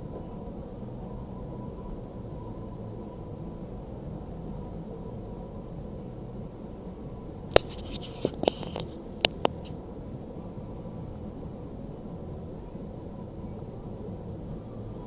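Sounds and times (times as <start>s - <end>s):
low vehicle cabin hum: 0.0s - 15.0s.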